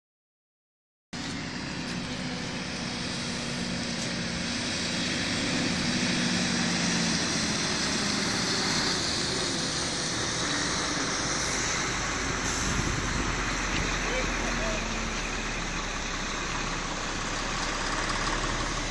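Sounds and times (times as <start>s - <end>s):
heavy vehicle engines driving: 1.2s - 18.9s.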